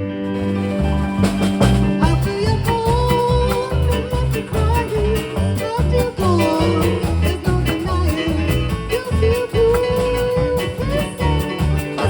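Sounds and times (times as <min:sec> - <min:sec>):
live band playing swing: 0:00.0 - 0:12.0
steady bass beat: 0:00.8 - 0:12.0.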